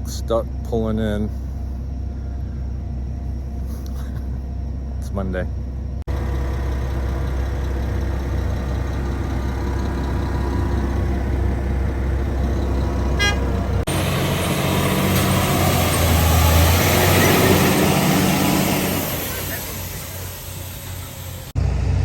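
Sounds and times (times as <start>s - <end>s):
heavy truck engines droning: 0.0s - 22.0s.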